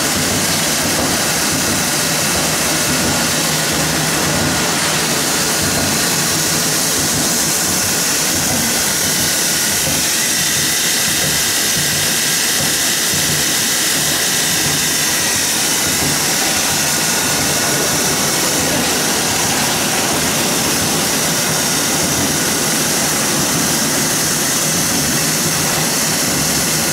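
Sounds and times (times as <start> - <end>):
extruder machinery running: 0.0 - 26.9
steam hissing: 0.0 - 26.9.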